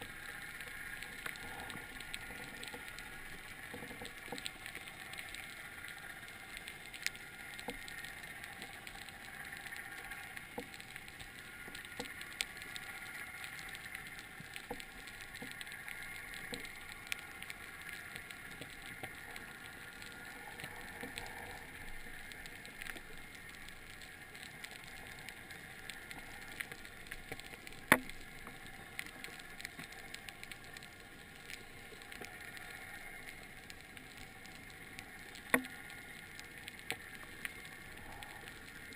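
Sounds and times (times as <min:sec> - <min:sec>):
small clicks and crackles: 0:00.0 - 0:38.9
underwater hiss: 0:00.0 - 0:38.9.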